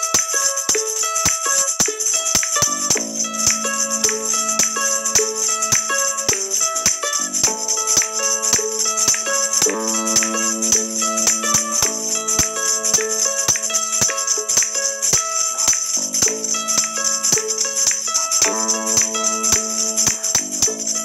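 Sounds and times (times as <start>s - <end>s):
held pitched notes: 0.0s - 21.0s
jingling high percussion: 0.0s - 21.0s.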